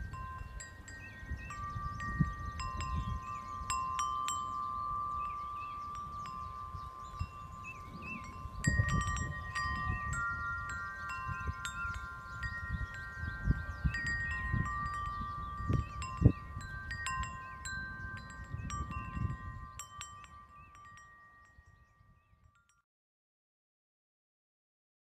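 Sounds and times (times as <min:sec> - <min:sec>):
wind rumbling on microphone: 0:00.0 - 0:22.6
metal tube wind chimes ringing: 0:00.0 - 0:22.8.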